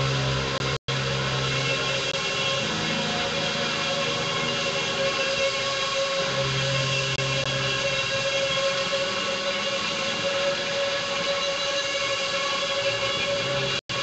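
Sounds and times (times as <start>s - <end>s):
sustained drone guitar tones: 0.0s - 14.0s.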